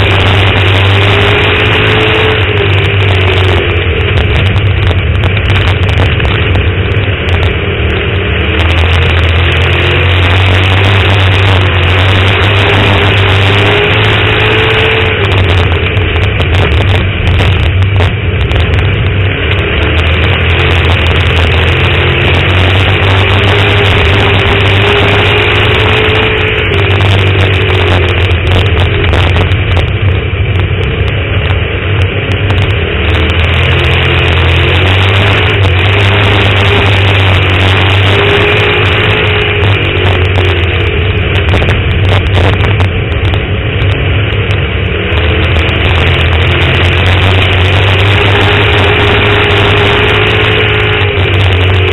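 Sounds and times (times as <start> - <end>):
race car engine running hard: 0.0 - 51.9.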